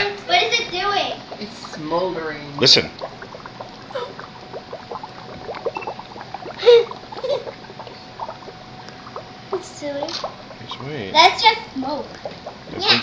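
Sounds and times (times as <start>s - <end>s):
dry ice bubbling and fizzing: 0.0s - 13.0s.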